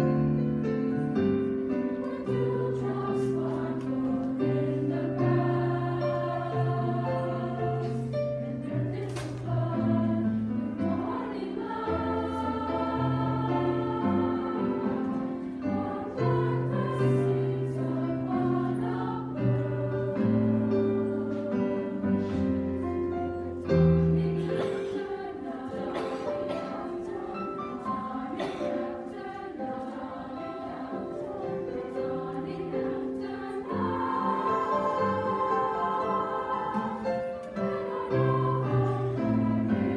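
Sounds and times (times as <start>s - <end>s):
choir singing chords: 0.0s - 39.9s
piano accompaniment: 0.0s - 39.9s.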